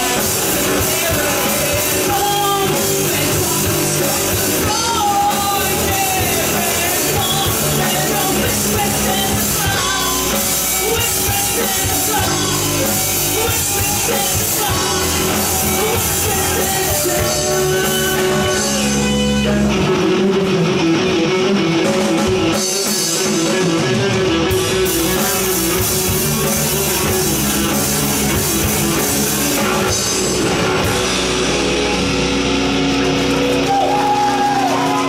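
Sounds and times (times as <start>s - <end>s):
bass guitar: 0.0s - 35.0s
drum kit: 0.0s - 35.0s
electric guitars playing riff: 0.0s - 35.0s.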